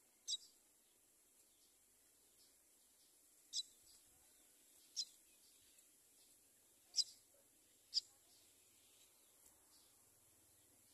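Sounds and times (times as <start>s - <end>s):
nestlings chirping: 0.0s - 10.9s.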